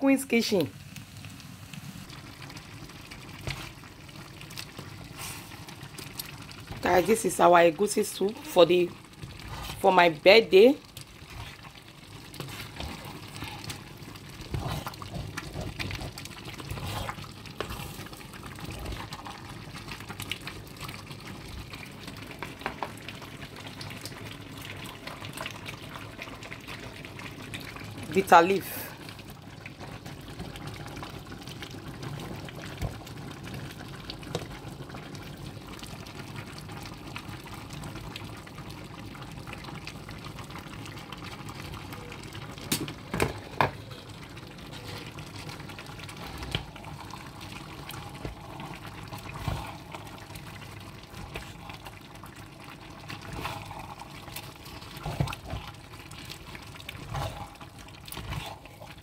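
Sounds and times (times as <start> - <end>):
pans boiling and bubbling: 0.0 - 59.0.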